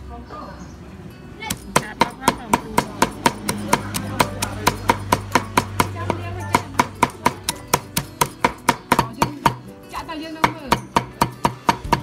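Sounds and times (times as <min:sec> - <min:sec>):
cleaver chopping on wooden block: 0:01.5 - 0:09.7, 0:10.4 - 0:12.0.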